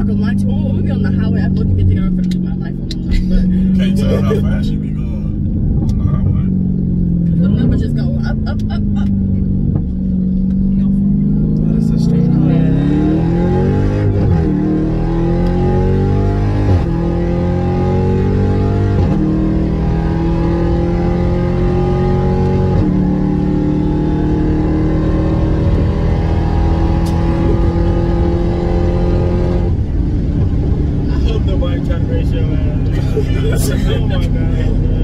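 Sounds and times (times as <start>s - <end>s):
car engine accelerating hard: 0.0s - 35.0s.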